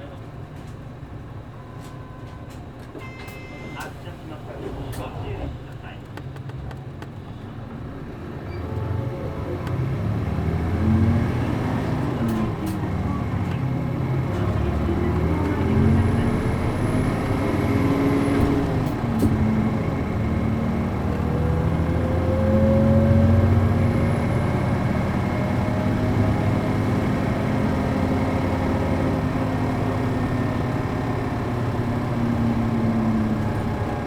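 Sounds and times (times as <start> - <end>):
bus diesel engine accelerating: 0.0 - 34.0.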